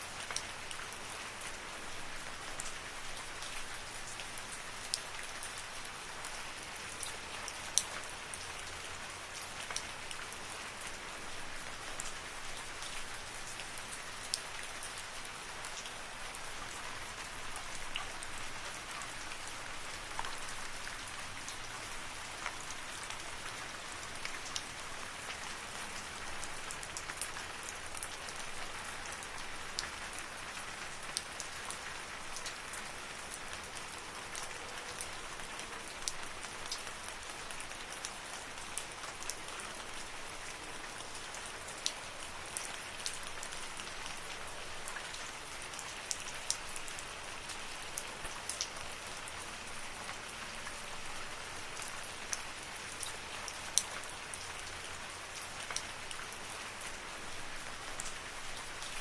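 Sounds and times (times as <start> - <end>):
raindrops ticking on leaves: 0.0 - 59.0
steady rain hiss: 0.0 - 59.0.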